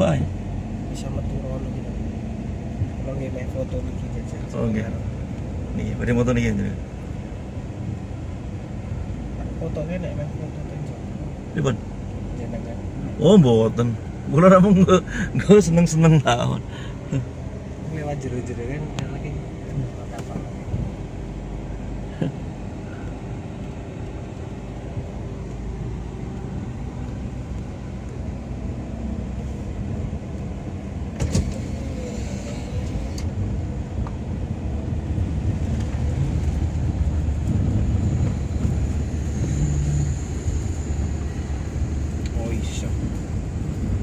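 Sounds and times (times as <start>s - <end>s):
engine rumbling: 0.0s - 44.0s.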